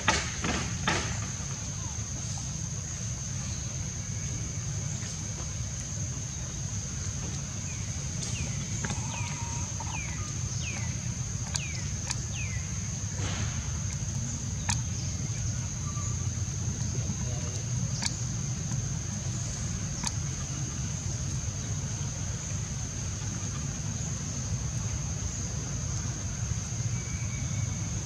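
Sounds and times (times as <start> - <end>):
steady low rumble: 1.4 - 28.0.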